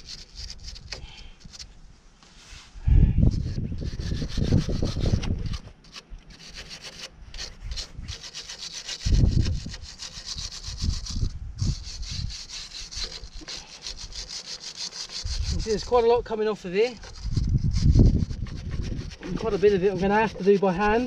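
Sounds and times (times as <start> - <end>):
wire brush scraping rusty steel: 0.0 - 1.7, 3.3 - 21.0.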